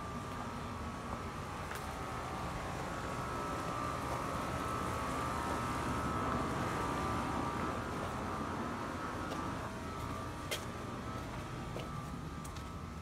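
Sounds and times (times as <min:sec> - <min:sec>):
steady motor drone: 0:00.0 - 0:13.0.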